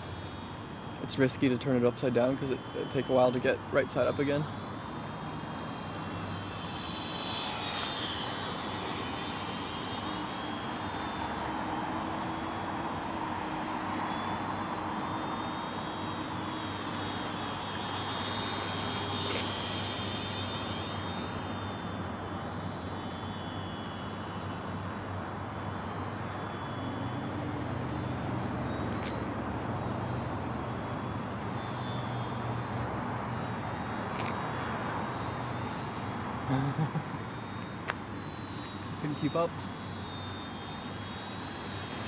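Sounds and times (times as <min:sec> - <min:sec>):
rc plane motor whine: 0:00.0 - 0:42.0.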